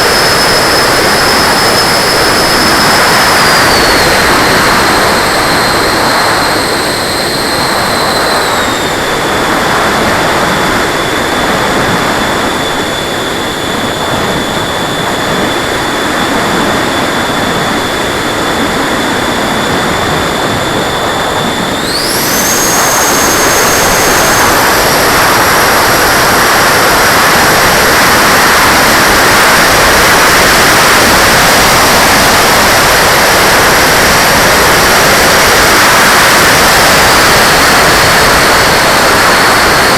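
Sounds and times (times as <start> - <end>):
electric ducted fan whining: 0.0 - 39.9
loud rushing air: 0.0 - 39.9.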